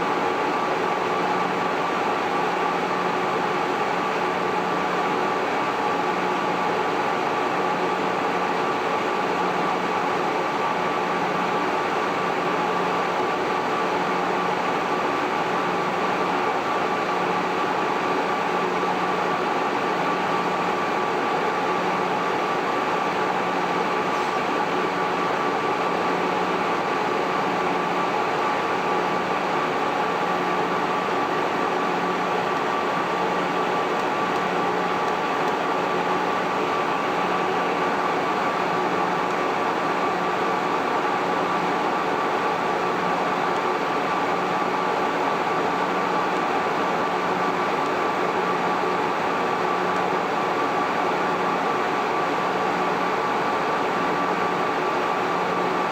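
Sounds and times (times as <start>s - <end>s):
cooling fans whirring: 0.0s - 55.9s.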